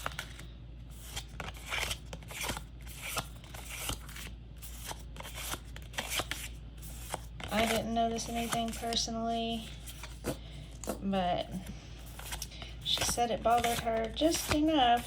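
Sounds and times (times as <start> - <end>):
cards being flipped through: 0.0 - 9.0, 9.6 - 11.0, 11.6 - 15.0.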